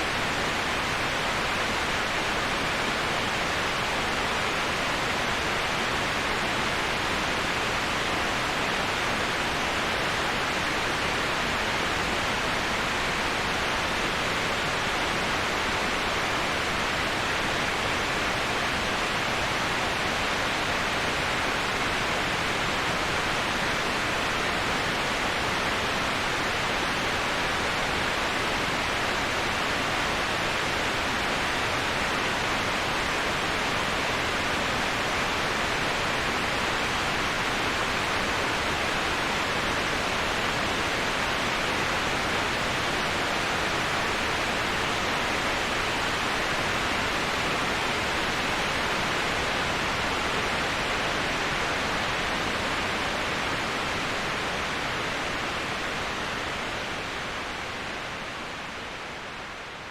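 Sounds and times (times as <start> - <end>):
waterfall rushing: 0.0 - 59.8.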